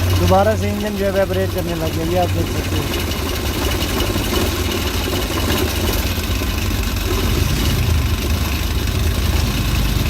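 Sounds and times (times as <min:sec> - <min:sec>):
car engine idling and shaking: 0:00.0 - 0:10.0.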